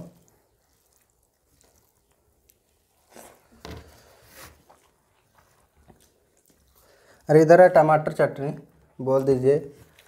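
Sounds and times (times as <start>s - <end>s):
soft eating noises: 0.0s - 10.0s.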